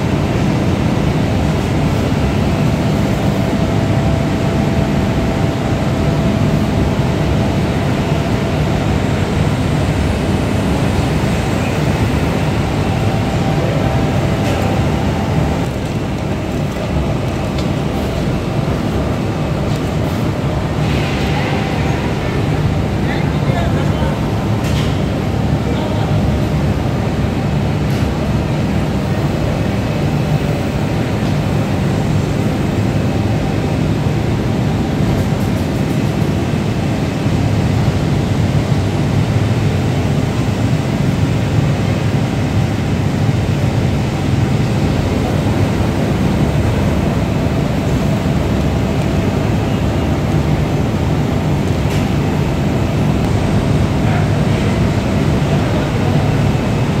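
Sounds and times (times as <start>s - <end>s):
factory machinery drone: 0.0s - 57.0s.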